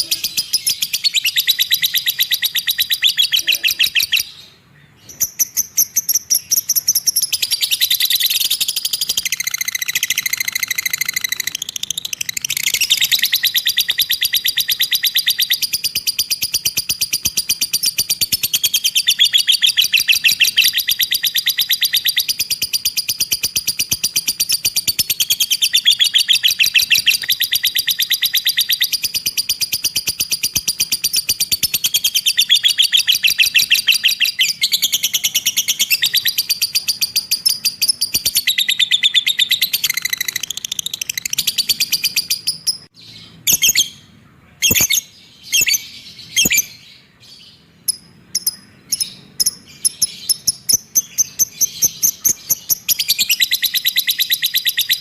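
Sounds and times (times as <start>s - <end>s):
bird chattering trill: 0.0s - 47.0s, 47.6s - 55.0s.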